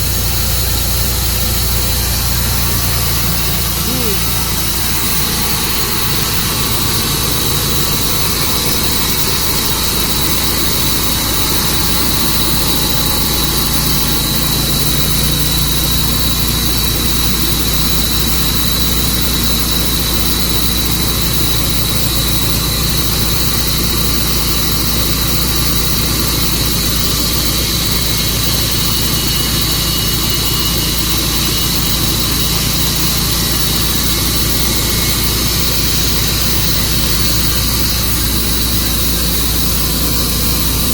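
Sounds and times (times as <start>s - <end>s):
sawmill engine: 0.0s - 40.9s
sawmill high whine: 0.0s - 40.9s.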